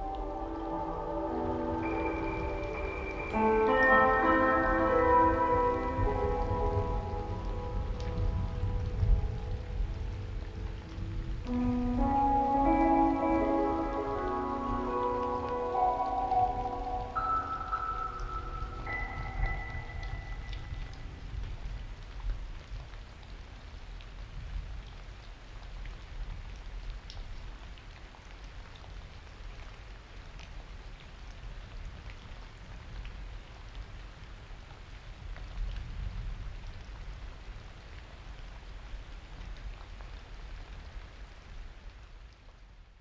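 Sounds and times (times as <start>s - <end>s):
raindrops ticking: 0.0s - 43.0s
steady rain: 0.0s - 43.0s.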